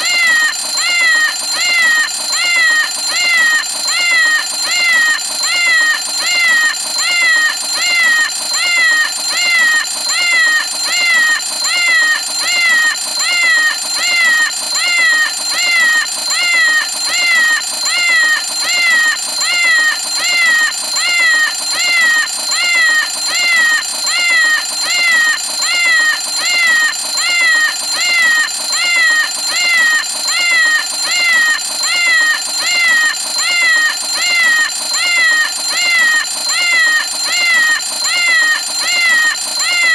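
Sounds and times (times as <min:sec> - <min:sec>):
alarm clock meowing: 0:00.0 - 0:39.9
high alarm ringing tone: 0:00.0 - 0:39.9.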